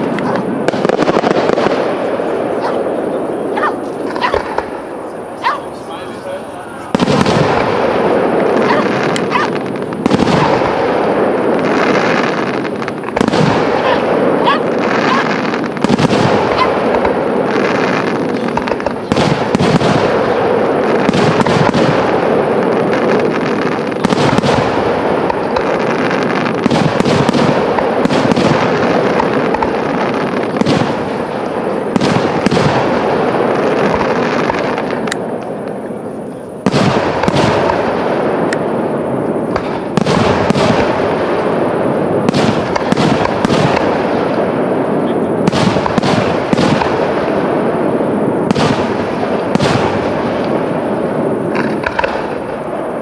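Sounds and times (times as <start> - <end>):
continuous noisy wash: 0.0 - 53.0
fireworks bursting with sharp bangs: 0.0 - 53.0.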